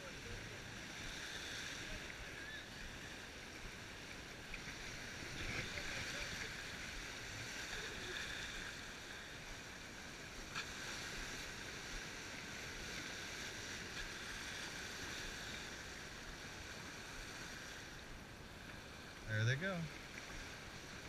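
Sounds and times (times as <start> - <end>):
water rushing along a hull: 0.0 - 21.0.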